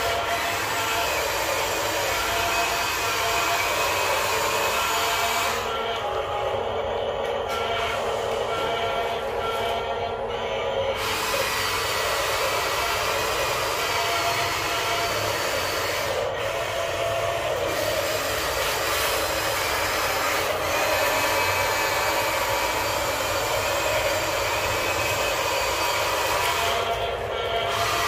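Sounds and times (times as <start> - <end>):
toy excavator motors whirring: 0.0 - 28.0.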